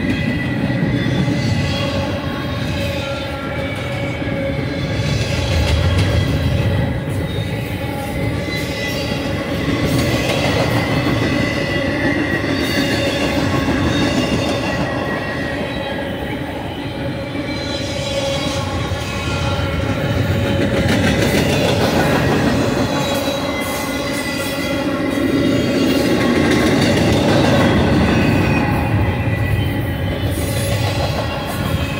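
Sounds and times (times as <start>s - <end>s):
high wheel squeal: 0.0s - 31.9s
steel wheels rumbling on rail: 0.0s - 31.9s.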